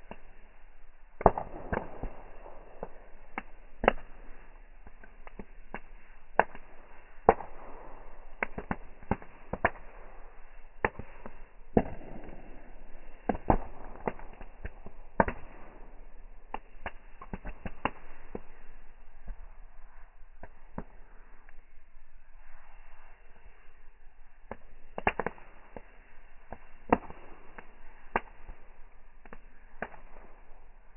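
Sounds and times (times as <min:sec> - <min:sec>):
burning wood popping and snapping: 0:01.1 - 0:21.7, 0:24.0 - 0:30.9
hiss of flame: 0:04.1 - 0:30.9.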